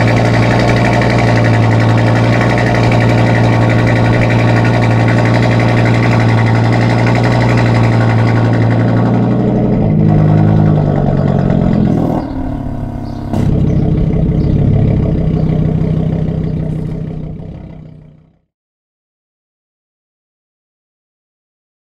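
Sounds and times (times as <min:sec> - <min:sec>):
car engine idling and revving: 0:00.0 - 0:18.5.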